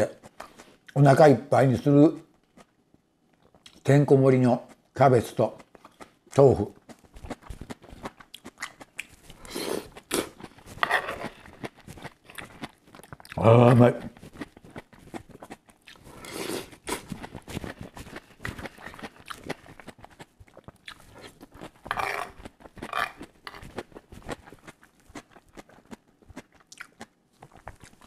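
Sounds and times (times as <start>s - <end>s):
close chewing with mouth clicks: 2.2s - 3.8s, 4.5s - 28.0s.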